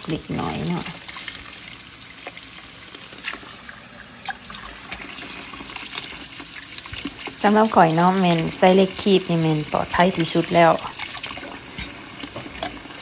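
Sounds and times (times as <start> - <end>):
tap water running into metal bowl: 0.1 - 13.0.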